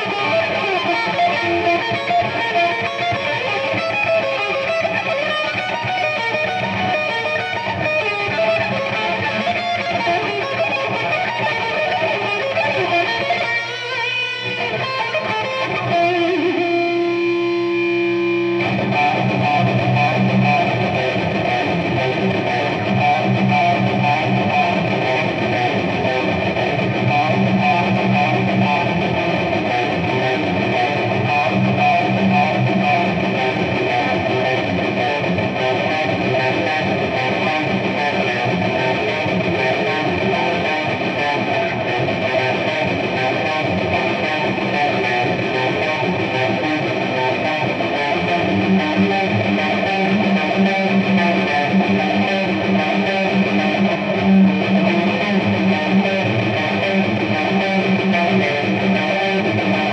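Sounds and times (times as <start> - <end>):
distorted electric guitar: 0.0 - 59.9.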